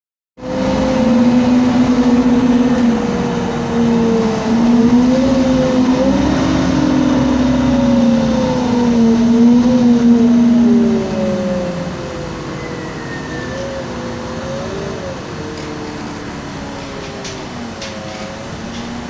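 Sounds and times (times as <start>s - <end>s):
bus engine droning: 0.4s - 19.0s.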